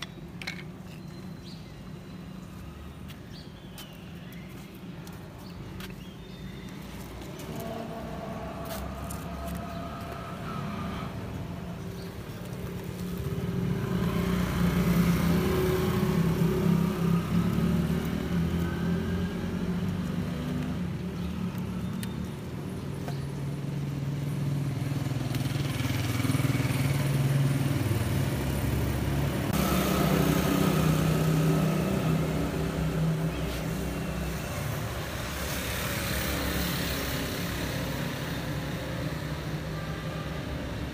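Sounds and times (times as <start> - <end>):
background traffic rumble: 0.0 - 40.9
cars passing: 5.7 - 40.9.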